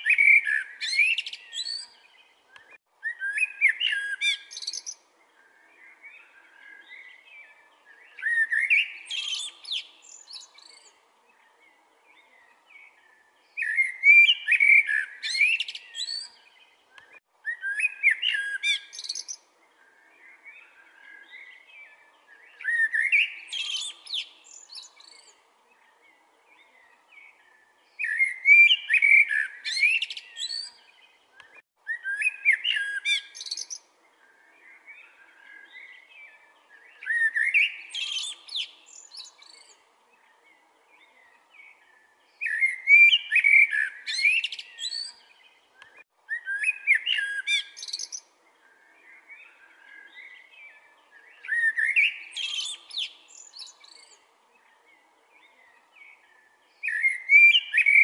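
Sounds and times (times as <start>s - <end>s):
blackbird singing: 0.0s - 58.0s.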